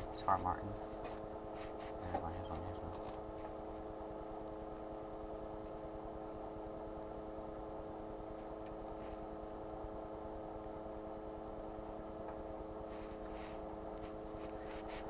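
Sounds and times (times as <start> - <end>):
steady tonal hum: 0.0 - 15.0
thin high whine: 0.0 - 15.0.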